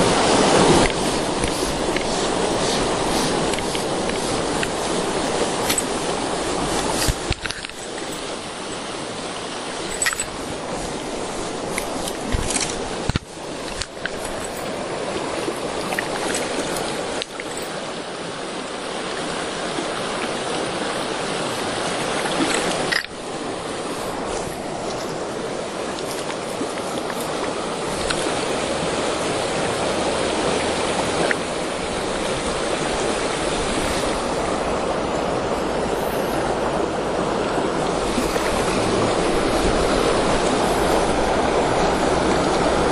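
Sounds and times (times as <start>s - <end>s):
stream babbling over stones: 0.0s - 42.9s.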